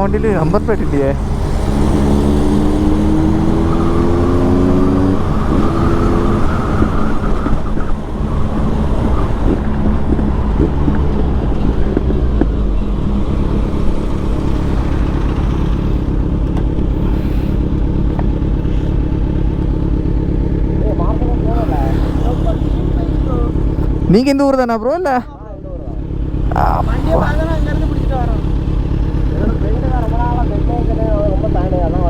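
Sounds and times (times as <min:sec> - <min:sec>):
motorcycle engine accelerating: 0:00.0 - 0:32.0
wind and road noise: 0:00.0 - 0:32.0.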